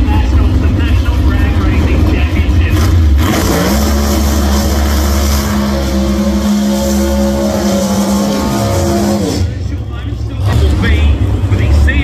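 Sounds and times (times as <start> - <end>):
engine at high rpm: 0.0 - 12.0.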